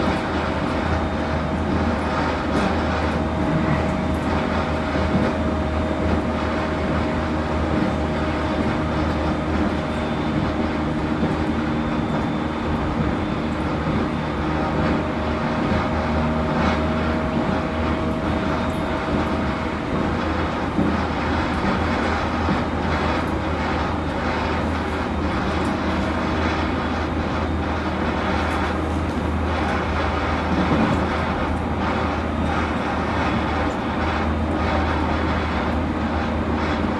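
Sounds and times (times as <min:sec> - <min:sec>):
electric train motor rumble: 0:00.0 - 0:36.9.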